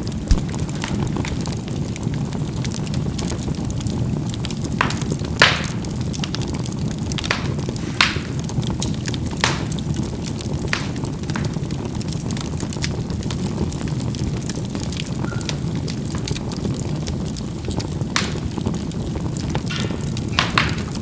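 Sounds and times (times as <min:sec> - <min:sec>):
charcoal fire burning: 0:00.0 - 0:21.0
fire crackling and popping: 0:00.0 - 0:21.0.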